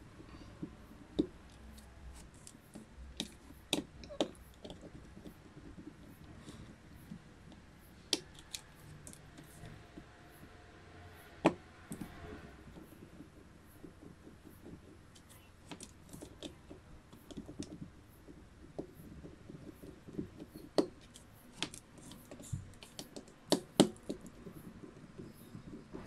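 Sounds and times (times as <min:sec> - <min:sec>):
screwdriver ticking and scraping: 0:00.6 - 0:10.6, 0:11.2 - 0:26.0.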